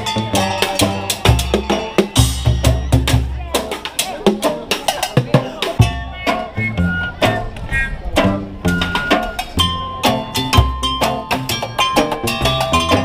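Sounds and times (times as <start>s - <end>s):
held notes: 0.0s - 13.0s
street band percussion music: 0.0s - 13.0s.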